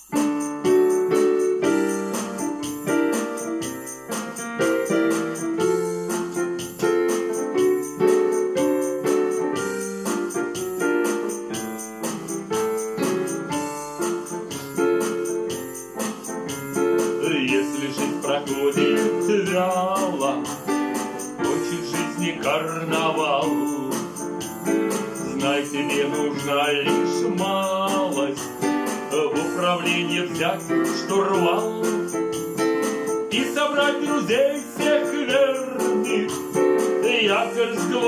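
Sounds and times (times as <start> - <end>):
digital piano music: 0.0 - 38.0
light jingling percussion: 0.0 - 38.0.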